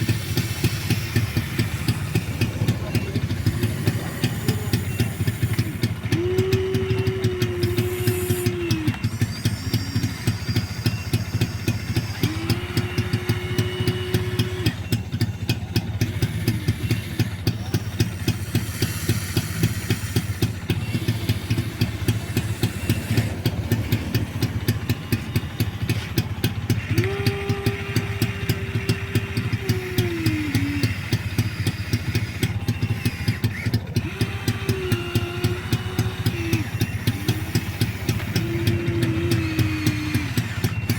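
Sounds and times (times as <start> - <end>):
simulated diesel engine chugging: 0.0 - 40.9
small electric motors whining: 0.0 - 40.9.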